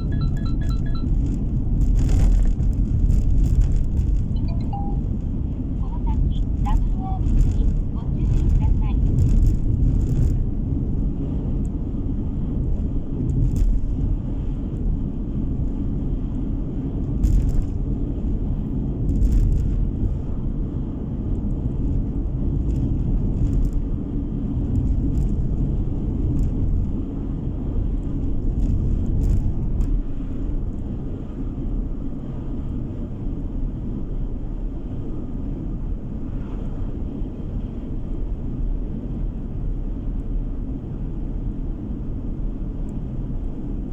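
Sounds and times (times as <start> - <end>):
car tyres and engine rumble: 0.0 - 43.9.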